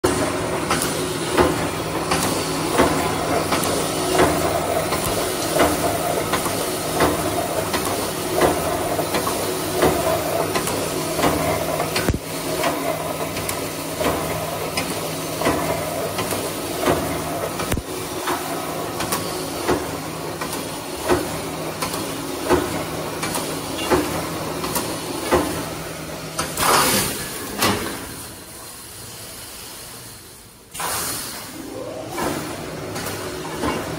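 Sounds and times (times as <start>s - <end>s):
welding machine humming: 0.0s - 27.5s.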